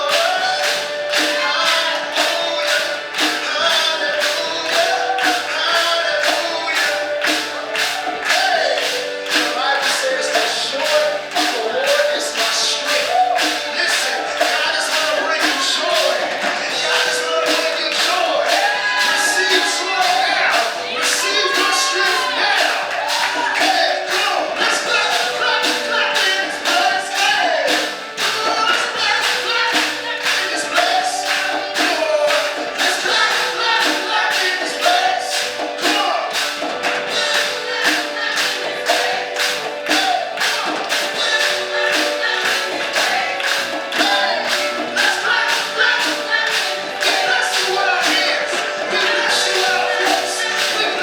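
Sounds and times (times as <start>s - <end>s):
choir singing: 0.0s - 51.0s
steady percussive beat: 0.0s - 51.0s.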